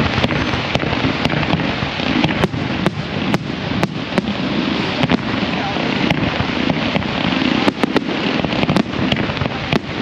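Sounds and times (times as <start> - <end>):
background noise: 0.0 - 10.0
fireworks cracking and banging: 0.0 - 10.0.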